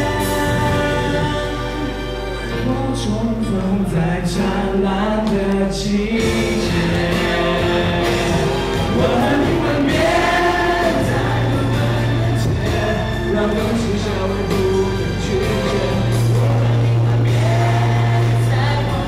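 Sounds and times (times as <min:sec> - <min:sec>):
group singing into microphones: 0:00.0 - 0:19.0.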